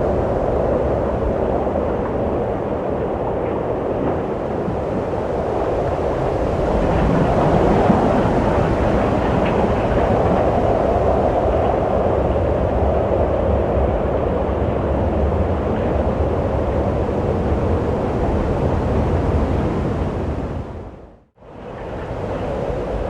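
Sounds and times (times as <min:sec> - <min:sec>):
wind rushing with low rumble: 0:00.0 - 0:23.0.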